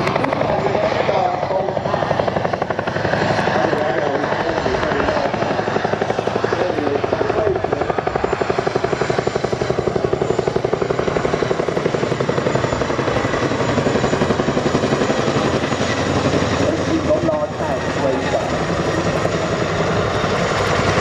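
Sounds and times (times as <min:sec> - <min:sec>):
helicopter rotor blades chopping: 0:00.0 - 0:21.0.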